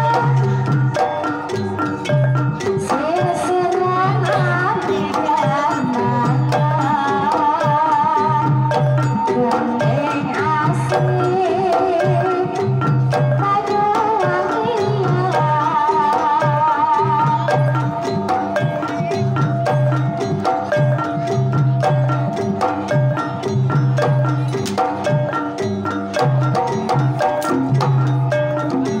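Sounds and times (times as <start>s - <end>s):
ringing metallophones: 0.0s - 29.0s
wavering held melody: 0.0s - 29.0s.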